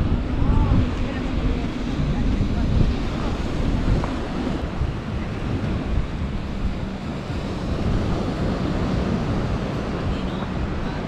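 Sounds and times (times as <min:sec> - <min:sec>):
small waves breaking on sand: 0:00.0 - 0:11.0
wind buffeting microphone: 0:00.0 - 0:11.0.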